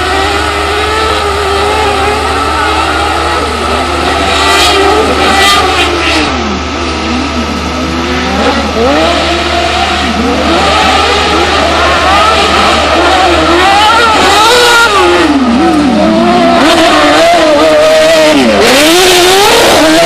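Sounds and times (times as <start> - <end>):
buggy engines revving: 0.0 - 20.0.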